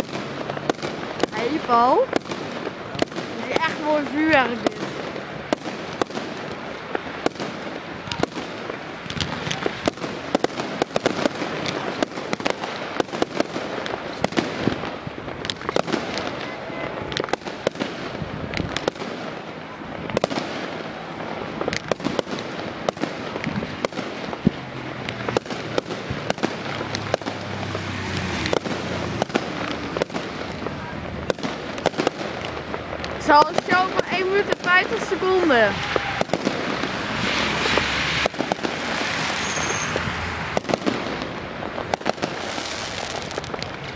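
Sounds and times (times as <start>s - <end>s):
fireworks bangs: 0.0s - 43.9s
fireworks crackling: 0.0s - 43.9s.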